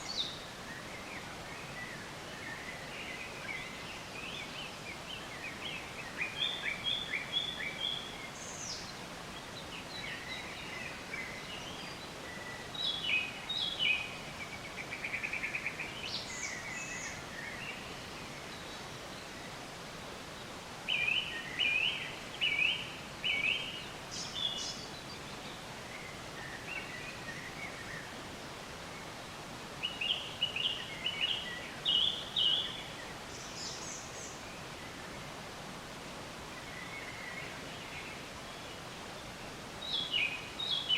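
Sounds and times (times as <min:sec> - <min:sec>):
songbirds chirping and singing: 0:00.0 - 0:29.2, 0:29.8 - 0:35.3, 0:36.4 - 0:40.9
steady background hiss: 0:00.0 - 0:40.9.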